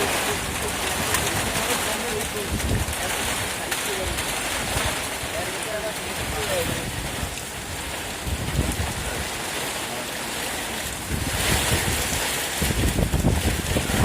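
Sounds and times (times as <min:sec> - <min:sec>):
rain: 0:00.0 - 0:14.0
storm wind: 0:00.0 - 0:14.0
wind buffeting microphone: 0:00.0 - 0:14.0.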